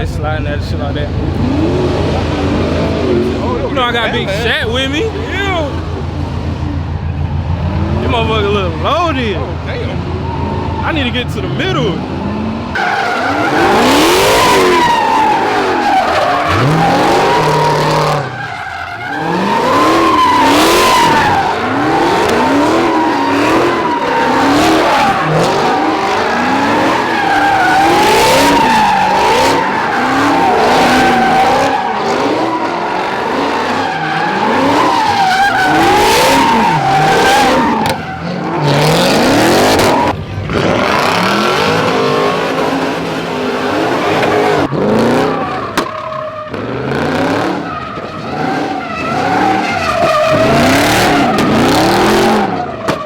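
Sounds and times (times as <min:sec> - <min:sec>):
car engine revving: 0:00.0 - 0:53.0
tires squealing: 0:00.0 - 0:53.0.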